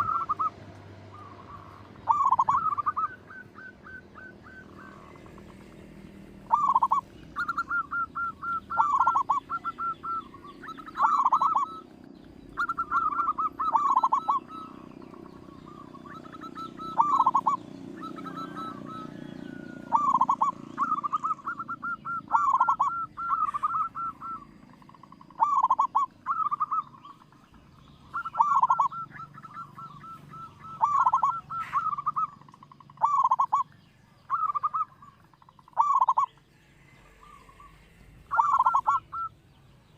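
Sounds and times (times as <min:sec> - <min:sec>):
dove cooing: 0:00.0 - 0:39.6.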